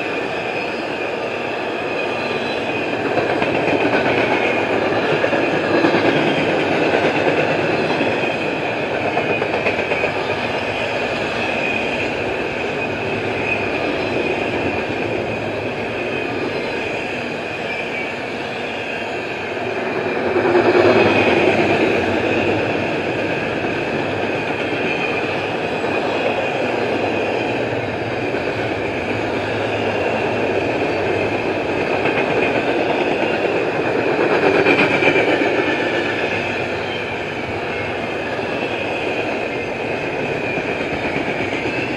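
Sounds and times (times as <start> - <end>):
freight train cars rolling on rails: 0.0 - 41.9.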